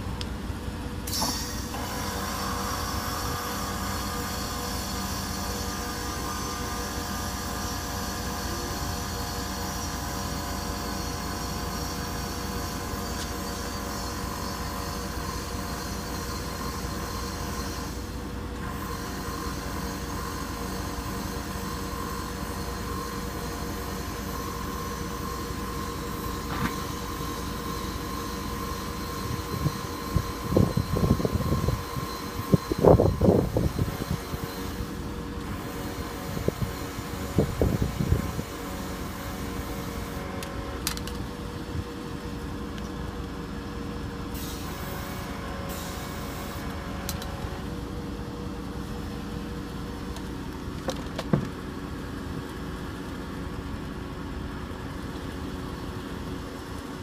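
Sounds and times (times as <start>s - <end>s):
electric tyre compressor running: 0.0s - 57.0s.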